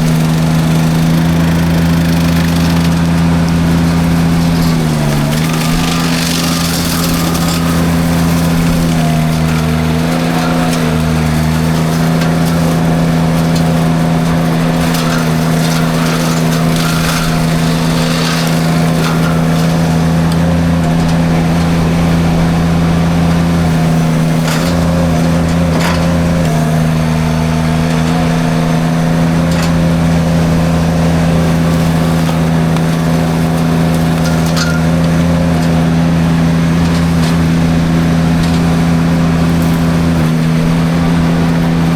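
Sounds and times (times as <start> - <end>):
mulcher drum through brush: 0.0 - 41.9
skid steer engine running: 0.0 - 41.9
wood cracking: 0.0 - 41.9.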